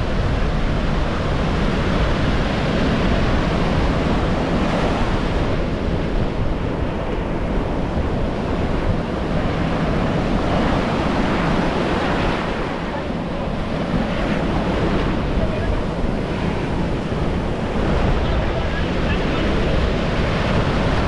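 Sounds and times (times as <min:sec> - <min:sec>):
sea surf and waves: 0:00.0 - 0:21.0
wind buffeting microphone: 0:00.0 - 0:21.0.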